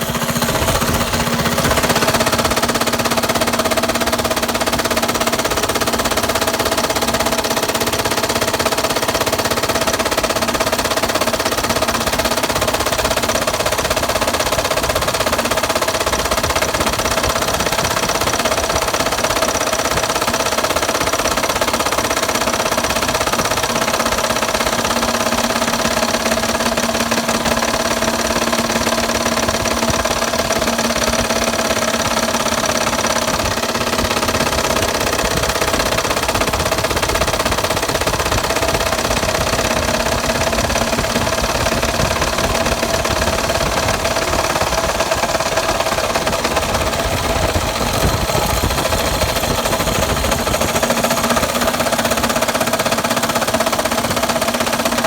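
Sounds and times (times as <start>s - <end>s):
engine running with rapid knocking: 0.0s - 55.0s.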